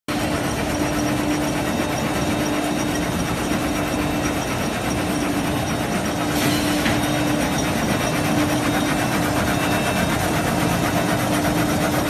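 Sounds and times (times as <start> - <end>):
continuous machine hum: 0.1 - 12.0
weaving machine clattering: 0.1 - 12.0.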